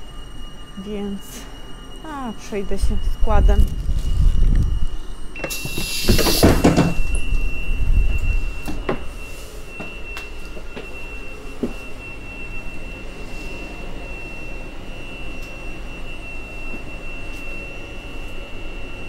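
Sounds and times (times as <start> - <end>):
train low rumble: 0.0 - 16.9
high-pitched tone: 0.0 - 19.0.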